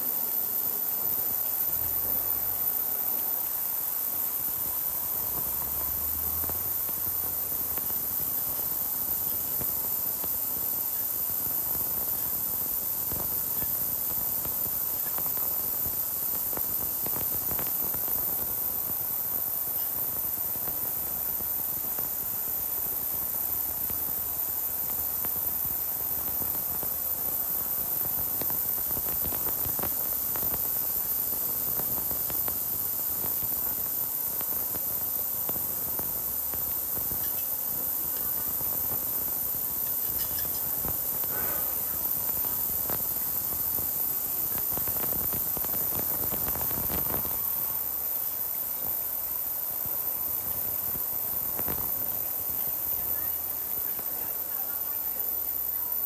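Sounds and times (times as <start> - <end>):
washing machine hiss: 0.0 - 55.6
faint hum: 0.0 - 56.0.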